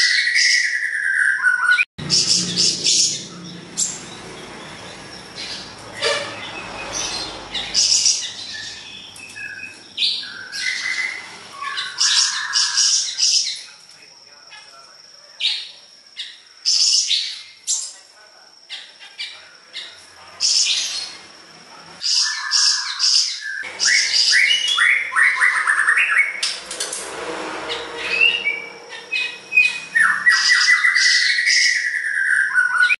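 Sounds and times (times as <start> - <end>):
songbird singing: 0.0 - 26.8, 27.5 - 33.0.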